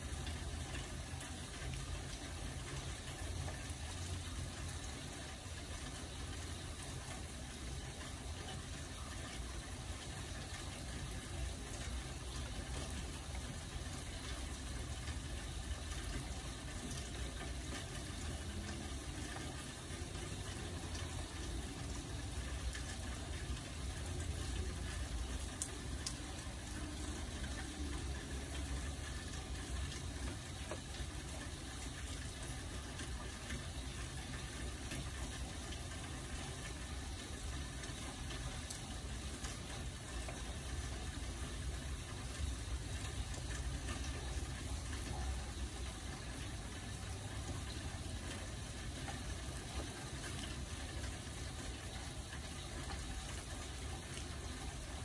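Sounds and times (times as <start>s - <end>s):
raindrop ticks: 0.0s - 55.0s
steady rain hiss: 0.0s - 55.0s.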